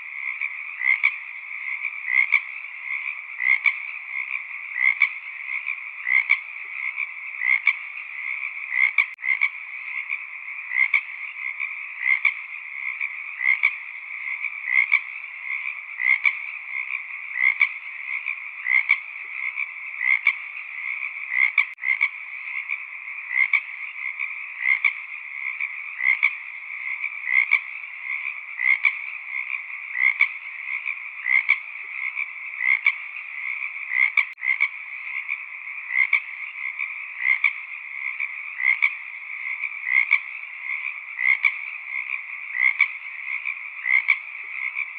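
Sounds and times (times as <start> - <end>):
frog chorus trilling: 0.0 - 44.9
loud single frog calls: 0.0 - 44.9.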